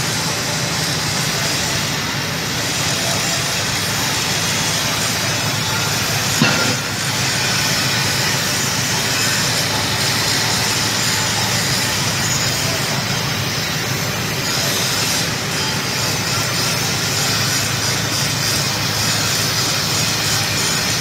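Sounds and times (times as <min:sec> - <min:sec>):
machine hum and hiss: 0:00.0 - 0:21.0.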